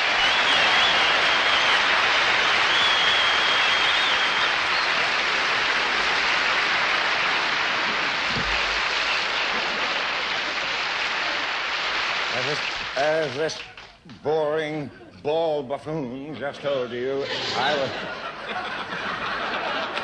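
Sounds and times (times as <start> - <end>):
audience applauding: 0.0 - 14.1, 17.6 - 20.0.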